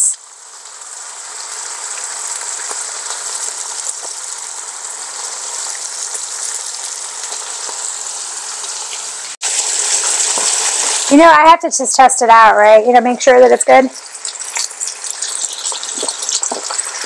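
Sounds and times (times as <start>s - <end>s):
bacon frying with small pops: 0.0s - 11.2s, 13.2s - 17.0s.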